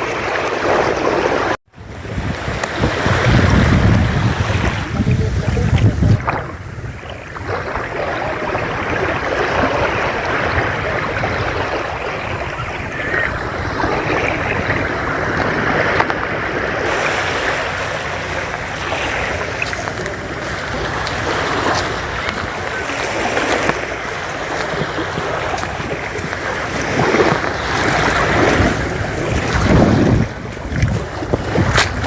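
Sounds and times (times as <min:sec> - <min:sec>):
sea waves washing onto beach: 0:00.0 - 0:32.0
wind buffeting microphone: 0:00.0 - 0:32.0.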